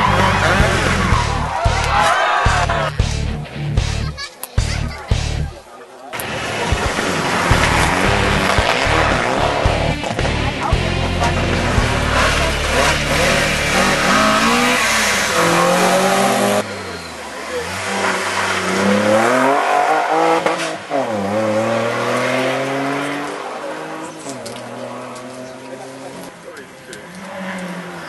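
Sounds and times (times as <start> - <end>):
rally car engine accelerating: 0.0 - 3.3, 6.2 - 28.0
tyre and road noise: 0.0 - 28.0.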